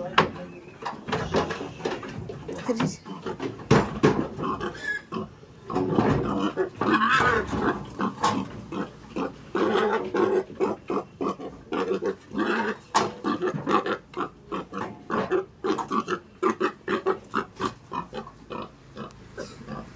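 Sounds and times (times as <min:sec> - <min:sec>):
pigs grunting: 0:00.0 - 0:19.9.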